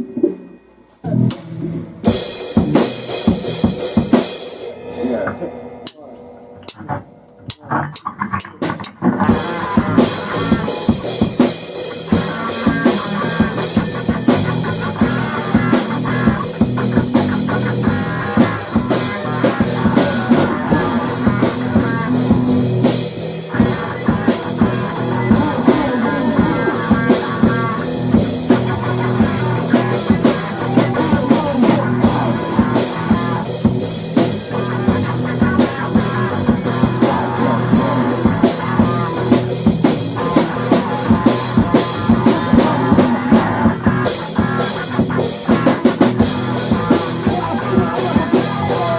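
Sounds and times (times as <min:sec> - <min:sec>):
rock guitars: 0:00.0 - 0:05.4, 0:06.4 - 0:48.9
drum kit beat: 0:00.0 - 0:48.9.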